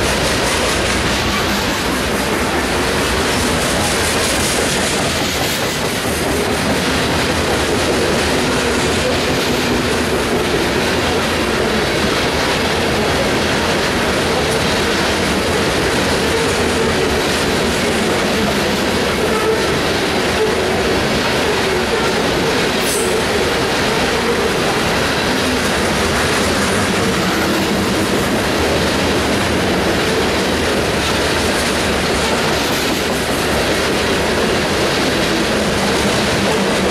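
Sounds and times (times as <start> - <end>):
freight train wheels on rail: 0.0 - 36.9.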